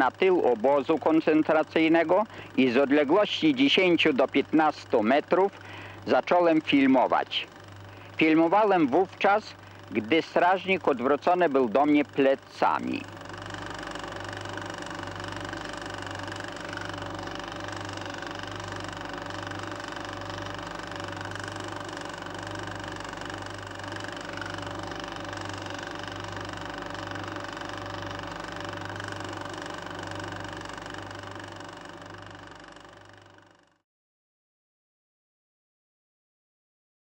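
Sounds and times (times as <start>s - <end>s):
mechanical hum with low throb: 0.0s - 33.8s.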